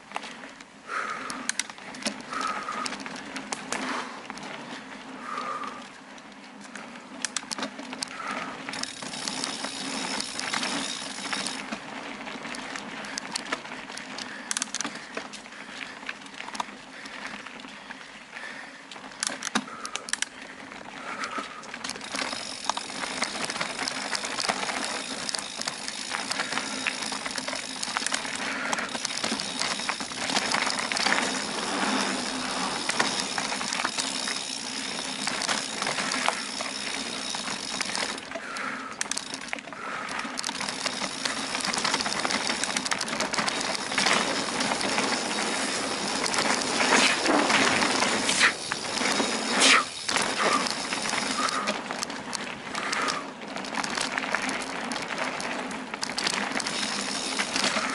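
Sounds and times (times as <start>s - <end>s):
bicycle mechanism rattling and clicking: 0.0s - 57.9s
bicycle tyres rolling on dirt: 0.0s - 57.9s.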